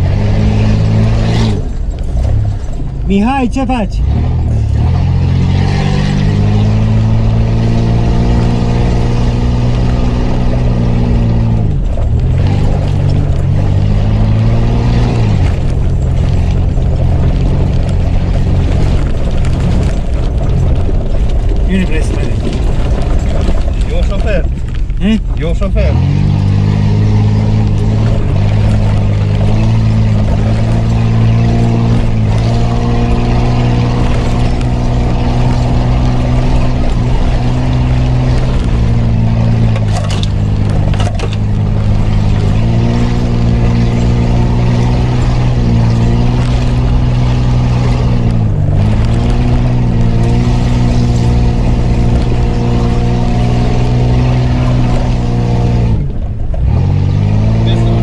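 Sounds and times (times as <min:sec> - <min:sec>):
car engine heard from inside: 0:00.0 - 0:58.0.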